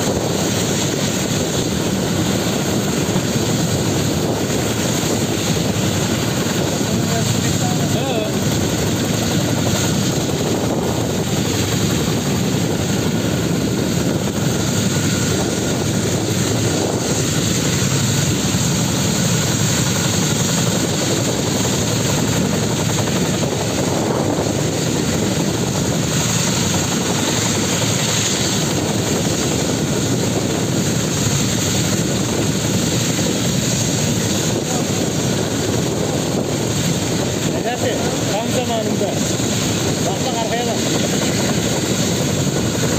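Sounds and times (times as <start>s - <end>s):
helicopter turbines and rotors: 0.0s - 42.9s.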